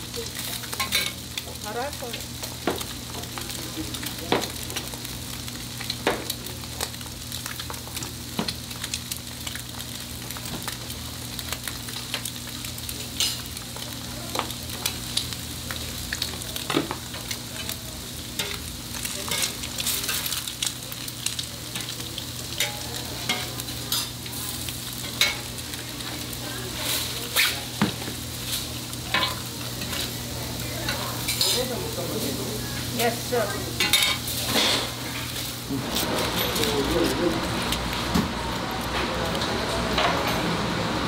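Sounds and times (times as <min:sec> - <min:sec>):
food sizzling on a griddle: 0:00.0 - 0:41.0.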